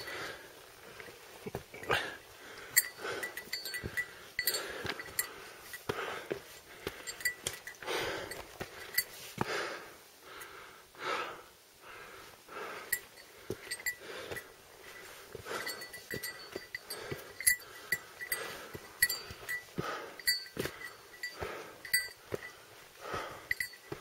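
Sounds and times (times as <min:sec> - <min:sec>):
person breathing hard: 0:00.0 - 0:24.0.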